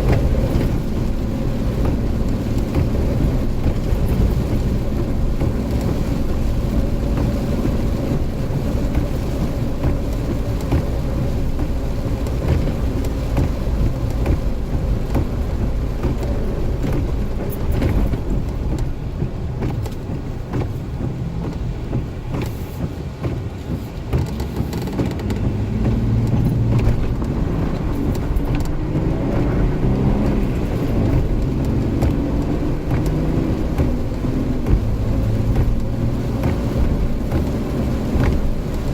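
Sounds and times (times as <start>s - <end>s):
rain on vehicle: 0.0s - 38.9s
vehicle engine and road rumble: 0.0s - 38.9s.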